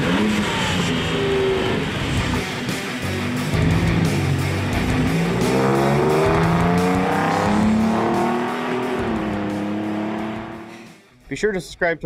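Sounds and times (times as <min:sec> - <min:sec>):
truck engine accelerating: 0:00.0 - 0:11.0
rock music: 0:00.0 - 0:11.6.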